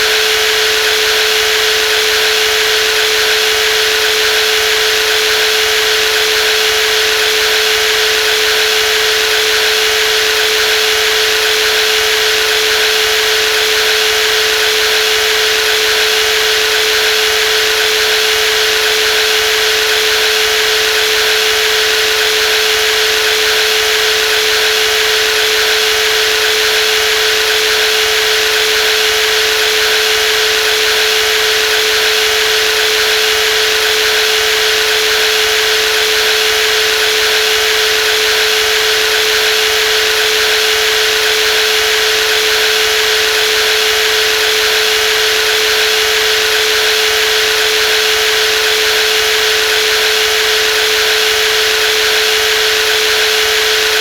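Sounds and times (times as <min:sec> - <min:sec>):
jigsaw running: 0:00.0 - 0:54.0.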